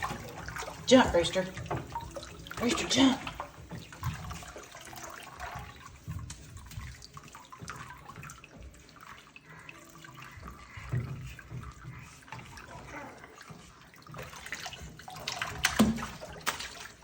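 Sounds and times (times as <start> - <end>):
bathwater sloshing and splashing: 0.0 - 17.0.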